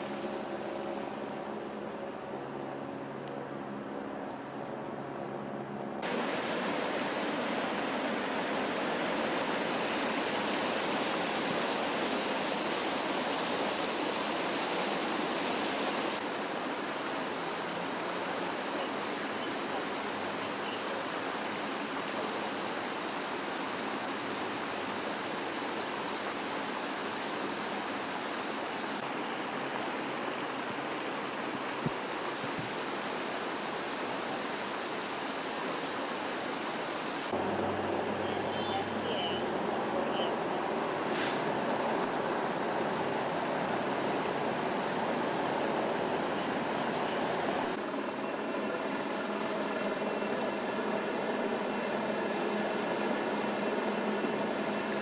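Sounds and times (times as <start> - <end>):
water rushing over pavement: 6.0 - 55.0.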